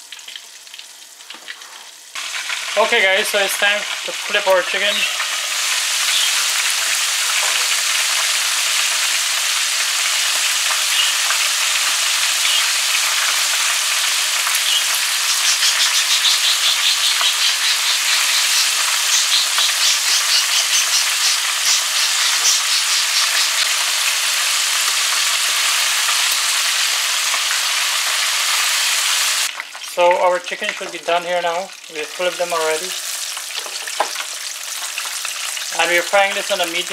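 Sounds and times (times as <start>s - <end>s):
chicken deep-frying in oil: 0.0s - 36.9s.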